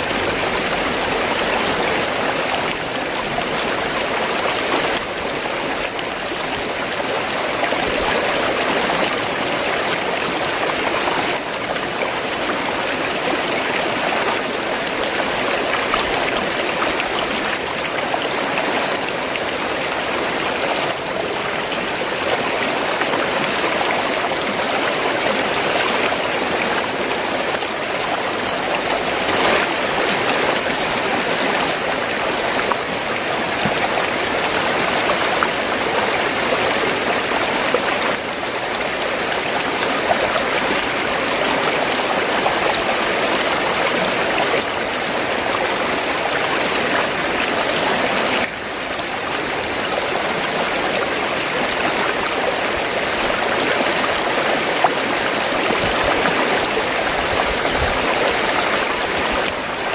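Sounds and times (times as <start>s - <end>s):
stream gurgling over stones: 0.0s - 59.9s.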